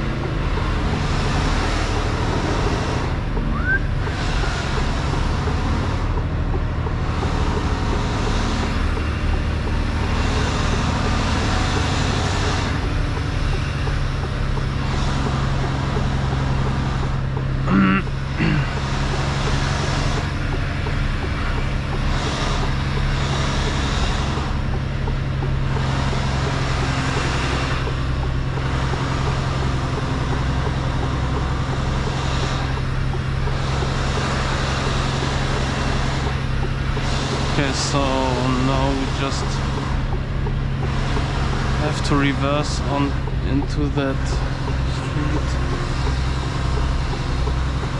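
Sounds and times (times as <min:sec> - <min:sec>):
road and air noise: 0:00.0 - 0:47.9
truck diesel engine running: 0:00.0 - 0:47.9.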